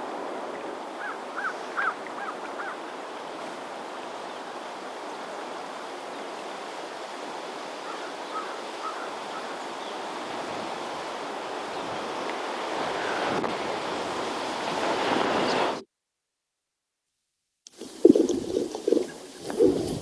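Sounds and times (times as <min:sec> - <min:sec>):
wind: 0:00.0 - 0:15.8, 0:17.6 - 0:20.0.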